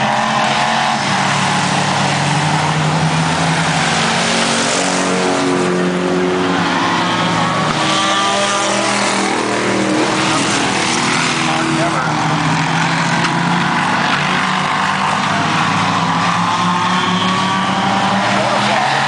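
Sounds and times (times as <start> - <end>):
stock car engines racing: 0.0 - 19.0.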